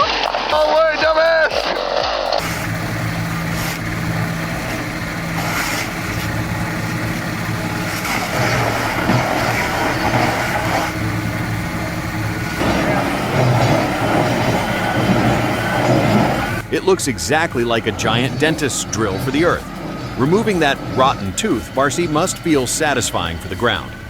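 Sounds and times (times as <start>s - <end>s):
heavy machinery engine running: 1.7s - 24.0s.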